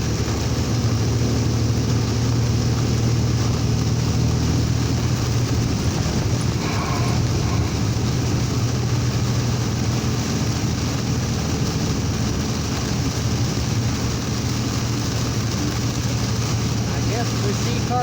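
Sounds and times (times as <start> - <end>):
engine and road hum: 0.0 - 18.0
hiss of rain and wind: 0.0 - 18.0.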